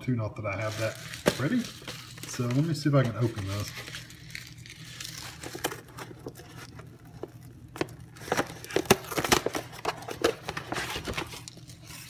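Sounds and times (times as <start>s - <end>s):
cardboard carton tearing and crackling: 0.6s - 12.0s.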